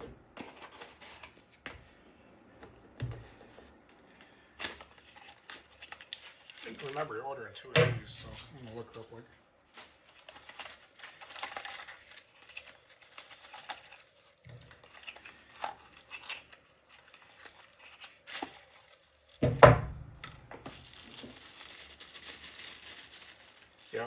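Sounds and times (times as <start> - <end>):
packaging rustling and crinkling: 0.0 - 1.8, 2.8 - 19.5, 20.2 - 24.0.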